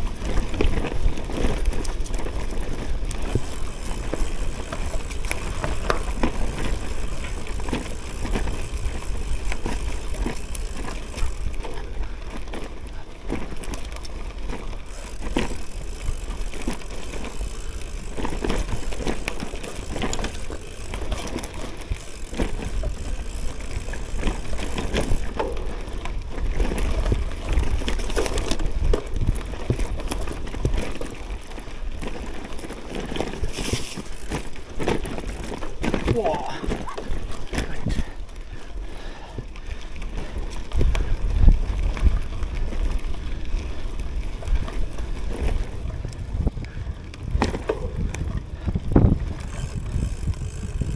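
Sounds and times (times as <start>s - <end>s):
bike rattling over bumps: 0.0s - 50.9s
bike tyres on dirt: 0.0s - 50.9s.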